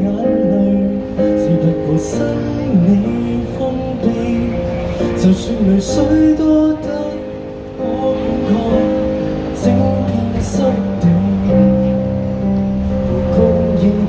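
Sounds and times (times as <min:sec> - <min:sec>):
live band with guitars and keyboard: 0:00.0 - 0:14.0.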